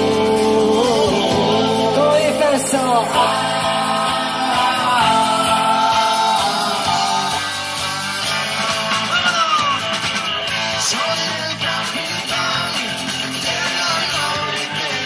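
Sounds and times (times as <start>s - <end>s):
lead guitar sliding down: 0.0s - 14.8s
live rock band playing: 0.0s - 15.0s.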